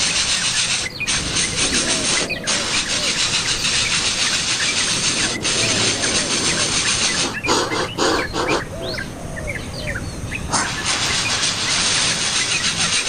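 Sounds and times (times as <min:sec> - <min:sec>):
loud bursts of noise: 0:00.0 - 0:08.8, 0:10.2 - 0:13.0
small birds chirping: 0:00.0 - 0:13.0
steady hiss: 0:00.0 - 0:13.0.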